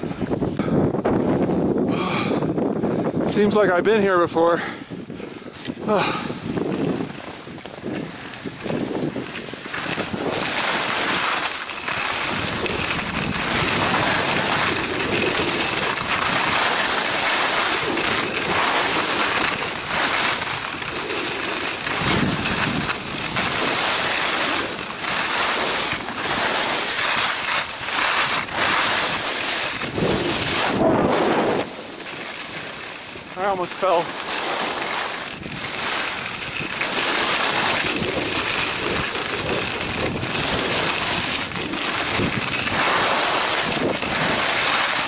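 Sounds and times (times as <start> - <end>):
wind buffeting microphone: 0.0 - 45.0
skis scraping over snow: 3.2 - 45.0.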